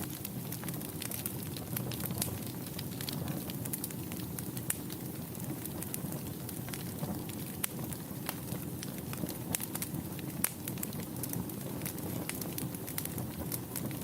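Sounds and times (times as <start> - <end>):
fire rumbling: 0.0 - 14.0
logs crackling and popping: 0.0 - 14.0.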